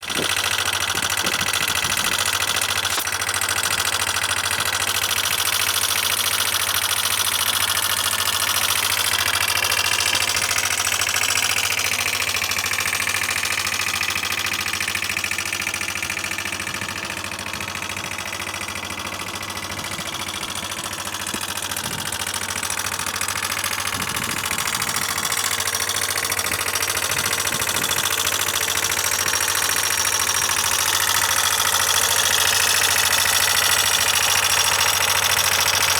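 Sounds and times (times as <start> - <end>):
scooter engine with abnormal noise: 0.0 - 35.9.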